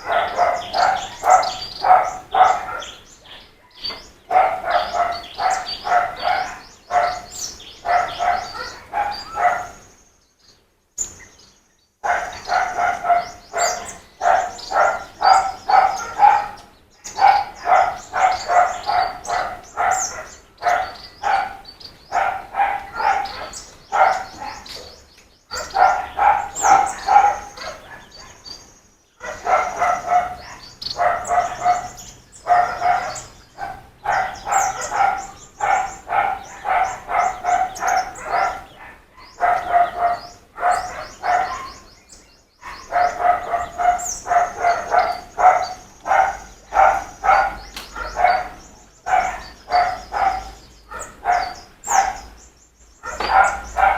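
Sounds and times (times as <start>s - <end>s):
dog barking: 0.0s - 9.8s, 12.0s - 28.6s, 29.2s - 42.0s, 42.6s - 52.4s, 53.0s - 53.9s
birds chirping faintly: 0.0s - 53.9s.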